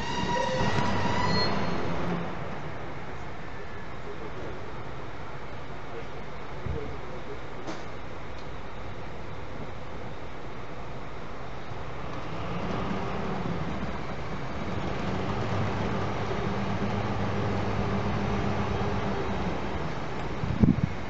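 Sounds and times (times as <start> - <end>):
passenger train rolling past: 0.0 - 6.6, 7.9 - 21.0.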